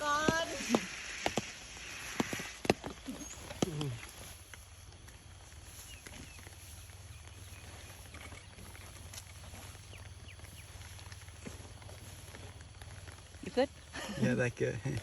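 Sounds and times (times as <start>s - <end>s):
light crackles and rustles: 0.0s - 15.0s.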